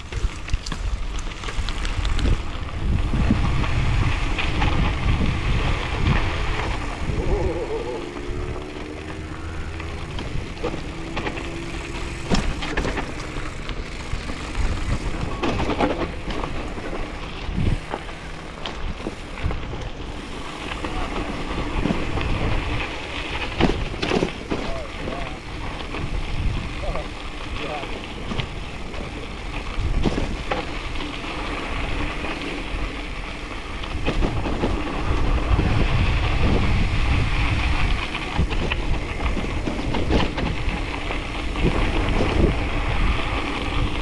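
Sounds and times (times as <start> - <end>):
bike clicks and rattles: 0.0 - 44.0
bike tyre rumble: 0.0 - 44.0
wind buffeting microphone: 0.0 - 44.0.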